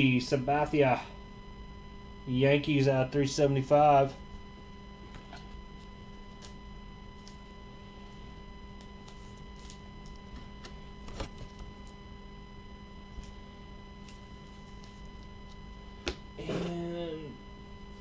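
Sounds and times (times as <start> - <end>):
electrical hum and whine: 0.0 - 18.0.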